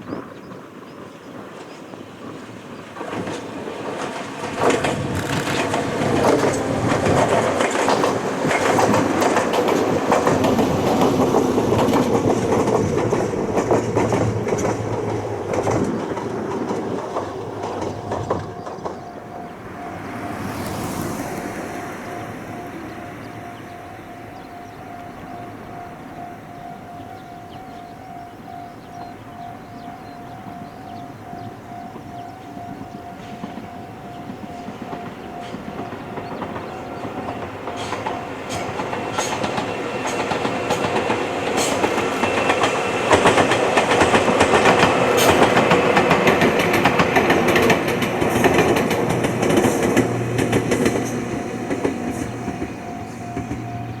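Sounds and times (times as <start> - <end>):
electric train passing: 0.0 - 54.0
train wheels clacking on rail joints: 0.0 - 54.0
level crossing warning bell: 2.6 - 54.0.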